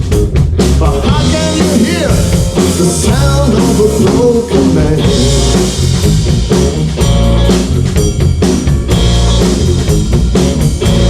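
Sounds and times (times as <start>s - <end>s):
bass guitar: 0.0s - 11.0s
drum and cymbal hits: 0.0s - 11.0s
electric guitar: 0.0s - 11.0s.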